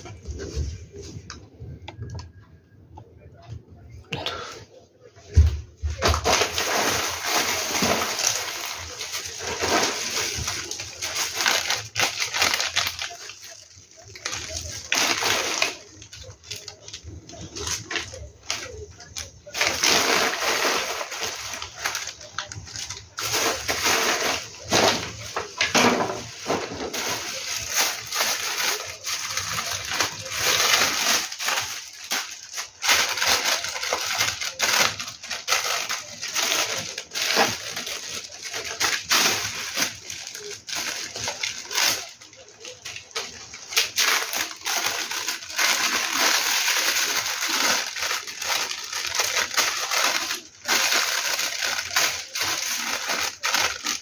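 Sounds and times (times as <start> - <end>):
plastic wrappers crinkling: 0.0 - 3.9, 5.9 - 54.0.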